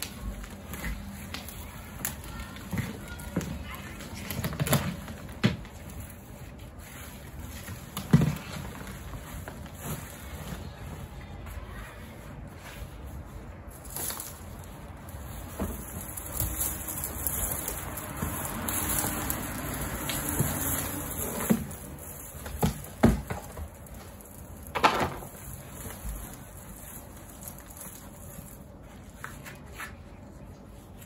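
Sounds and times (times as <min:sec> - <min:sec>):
soil rustling and sliding: 0:05.2 - 0:31.0.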